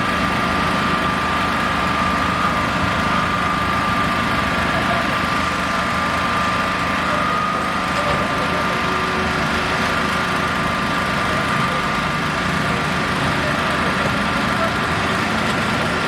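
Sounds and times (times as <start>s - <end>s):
engine idling: 0.0s - 16.0s
high engine whine: 0.0s - 16.0s.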